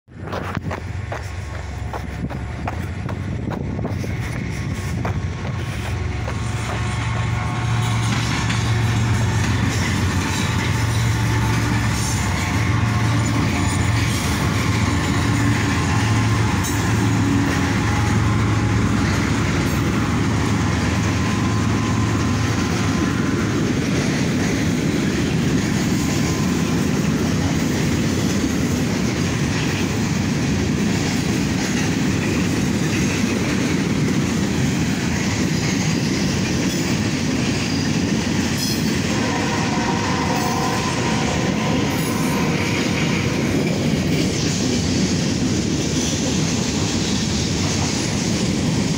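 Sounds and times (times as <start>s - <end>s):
freight train rumble: 0.0s - 48.9s
wheels clattering on rails: 0.1s - 48.9s.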